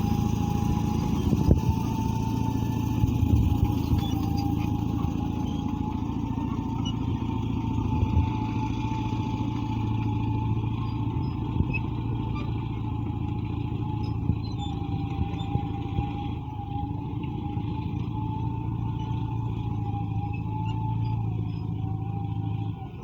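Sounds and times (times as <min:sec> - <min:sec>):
bulldozer diesel engine running: 0:00.0 - 0:23.0
thin steady whine: 0:00.0 - 0:23.0.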